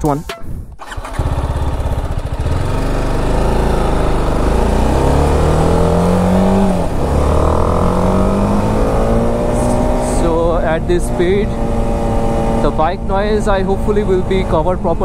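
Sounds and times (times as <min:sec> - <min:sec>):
motorcycle engine accelerating: 0:00.7 - 0:15.0.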